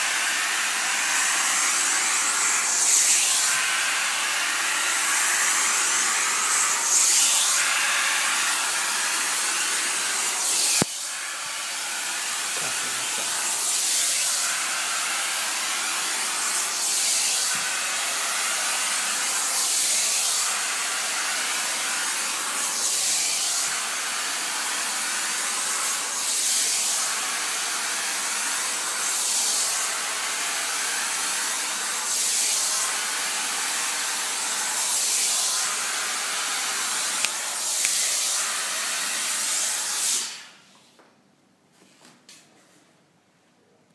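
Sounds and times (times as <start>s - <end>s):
garment steamer hissing: 0.0s - 40.6s.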